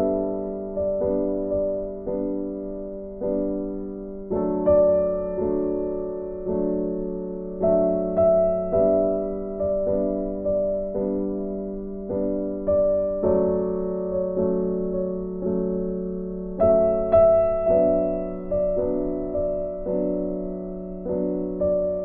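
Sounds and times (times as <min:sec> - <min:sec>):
gentle piano piece: 0:00.0 - 0:22.0.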